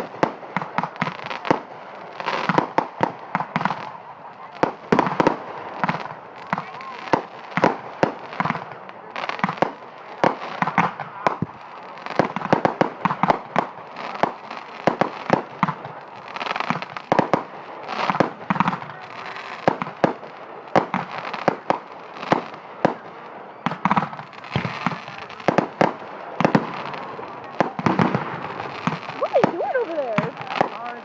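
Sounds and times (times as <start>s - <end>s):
fireworks bangs and crackling pops: 0.0s - 31.0s.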